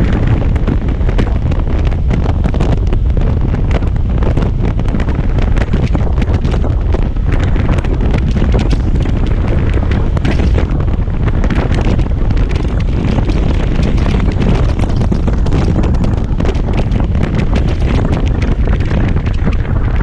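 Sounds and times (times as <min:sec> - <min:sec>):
scooter engine and road noise: 0:00.0 - 0:20.0
wind rushing over microphone: 0:00.0 - 0:20.0.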